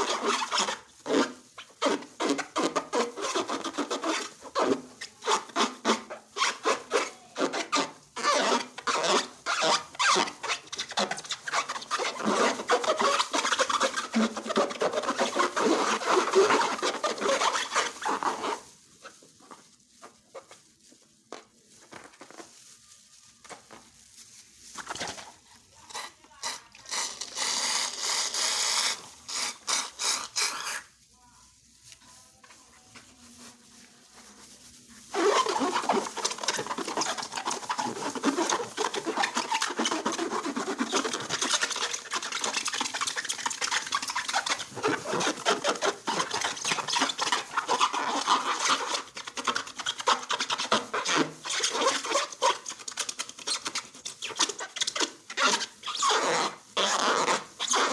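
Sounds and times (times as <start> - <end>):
slime squelching and crackling: 0.0 - 57.9.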